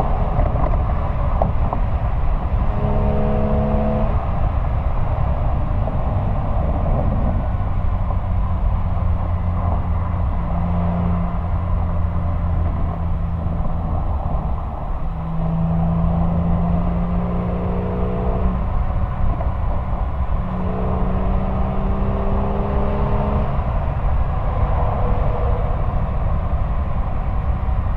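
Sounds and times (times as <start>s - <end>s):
car exhaust drone: 0.0s - 27.9s
wind and road noise: 0.0s - 27.9s.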